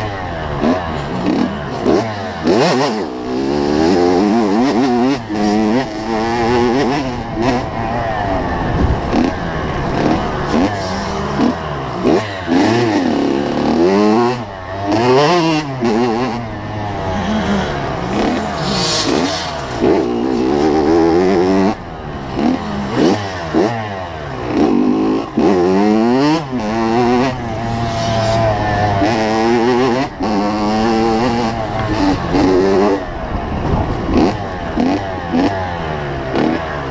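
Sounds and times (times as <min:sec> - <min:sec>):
two-stroke motorbike engine revving: 0:00.0 - 0:36.9.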